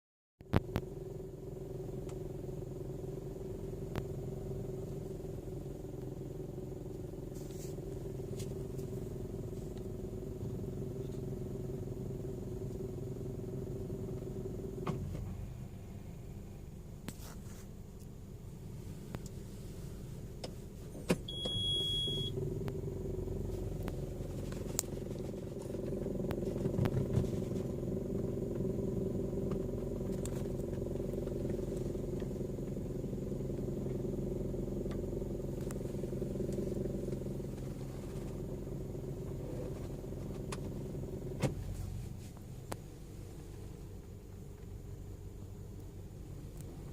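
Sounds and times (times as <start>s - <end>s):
car engine and road rumble: 0.4s - 46.9s.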